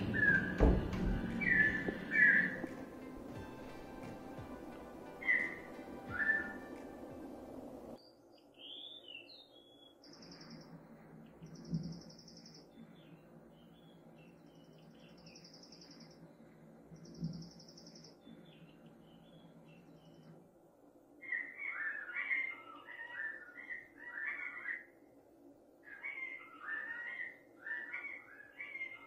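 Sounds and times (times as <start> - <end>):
recorded bird song through speaker: 0.0 - 2.7, 5.2 - 6.8, 8.0 - 20.4, 21.2 - 25.0, 25.8 - 29.0.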